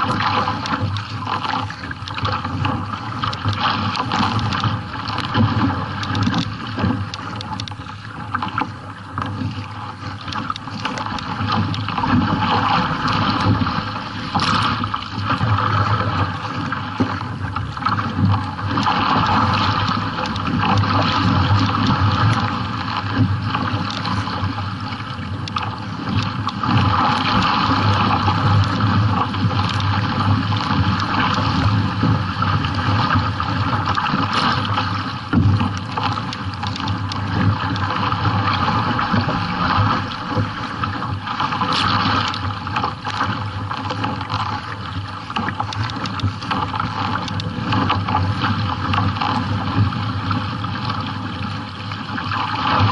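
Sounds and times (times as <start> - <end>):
water rushing along kayak hull: 0.0 - 52.9.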